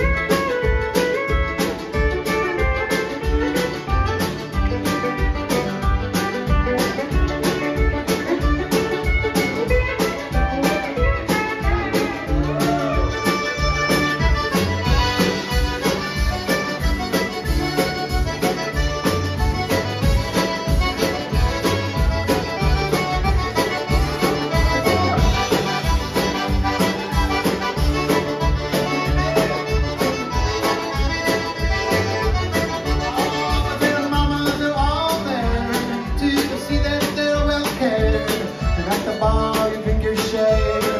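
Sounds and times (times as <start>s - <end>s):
accordion playing lead: 0.0s - 40.9s
country band playing: 0.0s - 40.9s
drums keeping steady beat: 0.0s - 40.9s.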